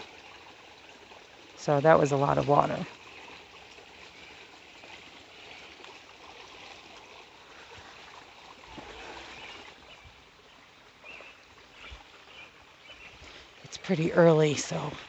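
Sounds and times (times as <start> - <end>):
water rushing over stones: 0.0 - 15.0.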